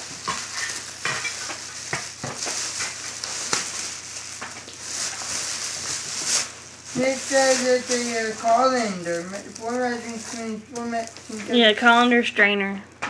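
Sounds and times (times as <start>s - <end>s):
gift wrap crinkling and rustling: 0.0s - 11.7s.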